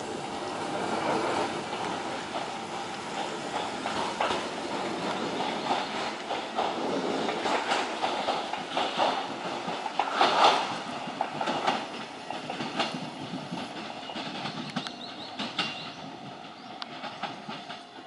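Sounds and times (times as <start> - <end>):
train wheels clattering on track: 0.0 - 18.0.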